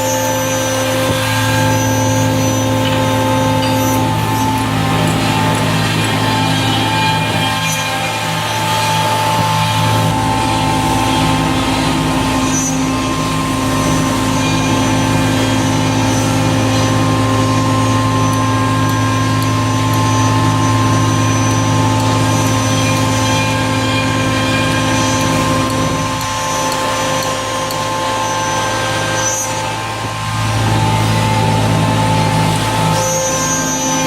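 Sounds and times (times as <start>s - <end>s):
fast low pulsing: 0.0s - 34.0s
router machine hum: 0.0s - 34.0s.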